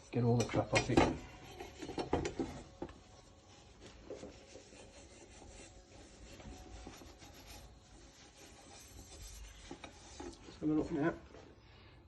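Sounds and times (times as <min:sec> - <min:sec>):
wire wool scratching copper pipe: 0:00.0 - 0:11.2.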